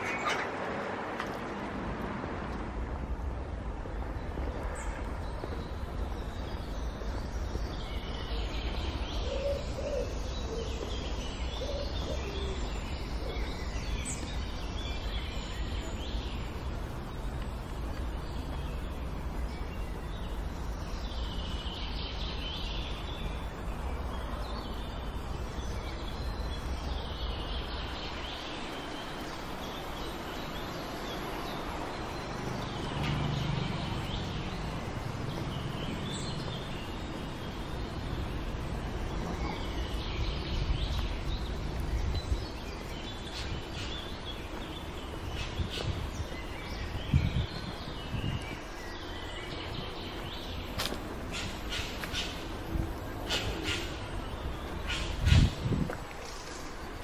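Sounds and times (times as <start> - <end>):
songbirds chirping and singing: 4.0 - 57.0.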